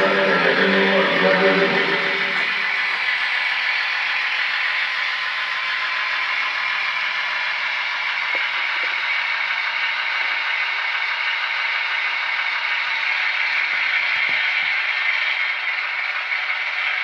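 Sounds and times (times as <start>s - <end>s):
model train whirring: 0.0s - 17.0s
wheels clicking over rails: 0.0s - 17.0s.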